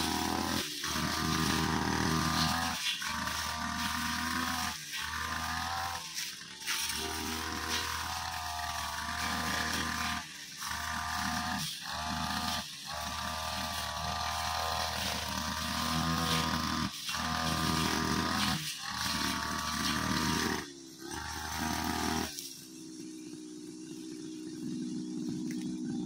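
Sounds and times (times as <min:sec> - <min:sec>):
blade cutting grass: 0:00.0 - 0:26.0
brushcutter engine running: 0:00.0 - 0:26.0.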